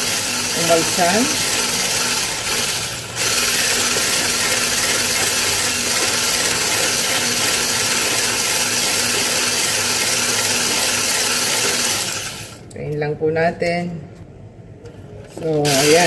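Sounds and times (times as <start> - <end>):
electric whisk motor running: 0.0 - 12.6, 15.6 - 16.0.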